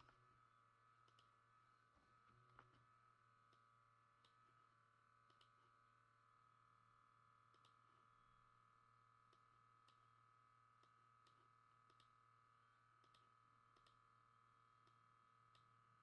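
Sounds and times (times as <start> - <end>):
faint steady hum: 0.0 - 16.0
faint irregular ticks: 1.0 - 1.5, 2.3 - 6.1, 7.3 - 16.0.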